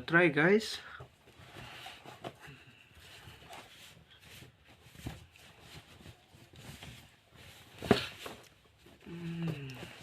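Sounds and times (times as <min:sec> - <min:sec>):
t-shirt rustling: 0:01.2 - 0:10.0.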